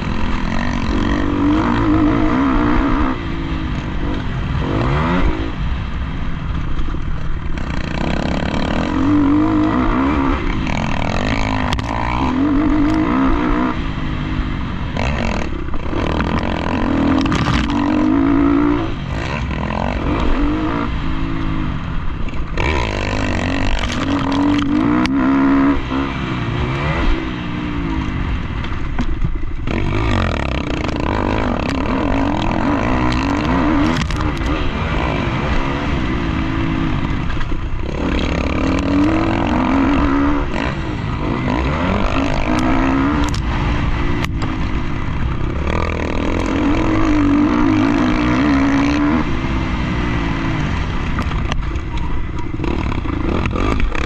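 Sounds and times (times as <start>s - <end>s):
dirt bike engine revving: 0.0s - 6.3s, 7.0s - 54.0s.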